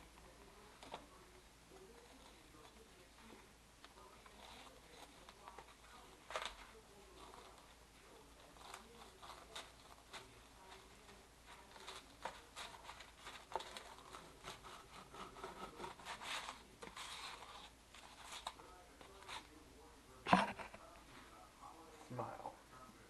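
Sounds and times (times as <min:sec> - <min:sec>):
faint scraping and rubbing: 0:00.0 - 0:22.0.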